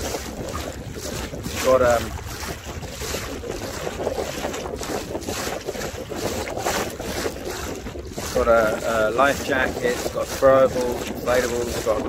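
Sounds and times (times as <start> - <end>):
small waves splashing against boat: 0.0 - 12.0
wind buffeting microphone: 0.0 - 12.0.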